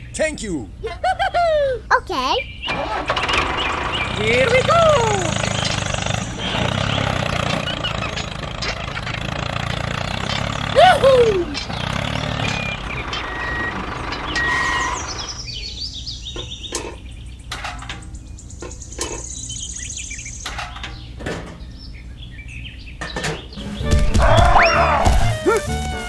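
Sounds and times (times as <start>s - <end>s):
birds chirping: 0.0s - 26.0s
engine running: 2.7s - 21.8s, 23.4s - 26.0s.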